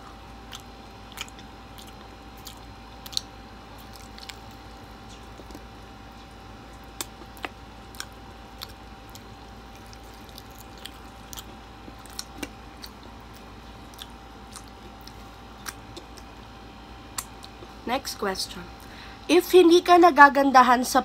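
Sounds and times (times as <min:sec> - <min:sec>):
person chewing with mouth smacks: 0:00.0 - 0:16.4, 0:17.1 - 0:17.8.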